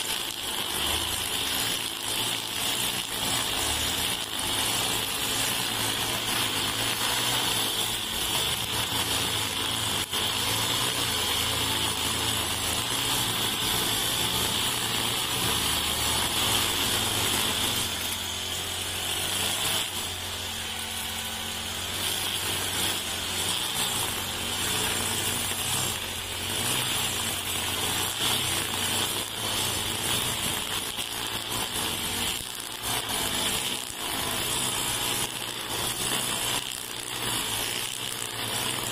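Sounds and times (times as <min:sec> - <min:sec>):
brush cutter cutting grass: 0:00.0 - 0:38.9.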